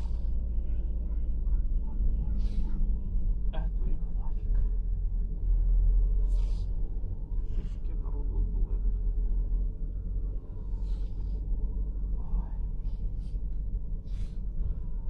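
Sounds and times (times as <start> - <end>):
vehicle rumble from inside cabin: 0.0 - 15.0.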